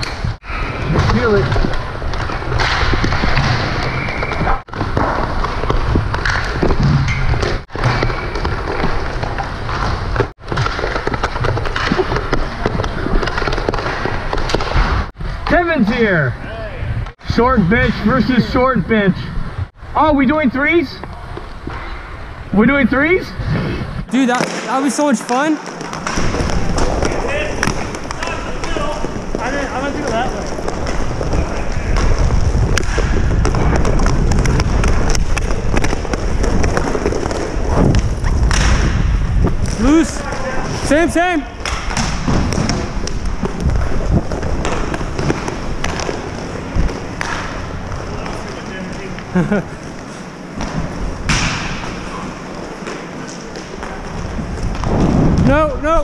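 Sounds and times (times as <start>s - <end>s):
sticks pucks and skates clicking: 0.0s - 15.0s, 24.2s - 55.6s
noisy rush of rink play: 0.0s - 56.0s.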